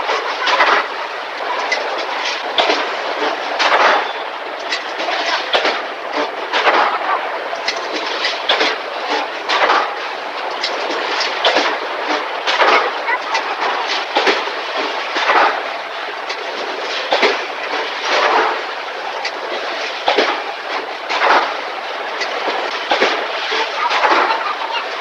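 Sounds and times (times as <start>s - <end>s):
steady machinery din: 0.0s - 25.0s.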